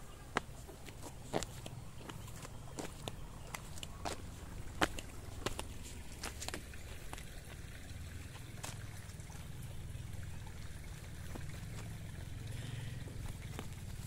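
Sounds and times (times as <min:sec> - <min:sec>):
water trickling in a channel: 0:00.0 - 0:14.0.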